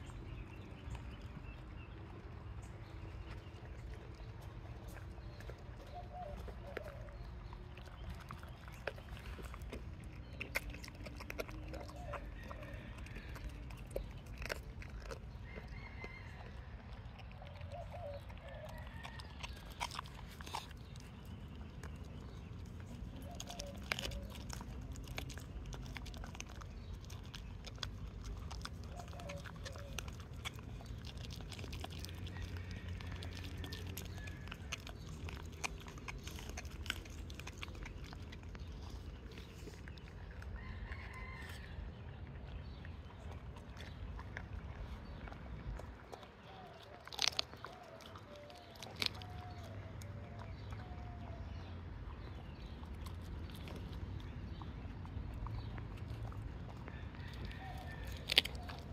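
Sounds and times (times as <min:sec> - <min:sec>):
dog chewing and crunching bones: 0:00.0 - 0:58.9.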